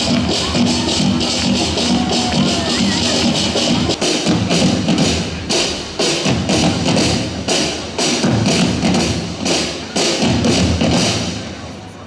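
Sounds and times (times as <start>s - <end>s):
drum group playing loud beat: 0.0s - 11.5s.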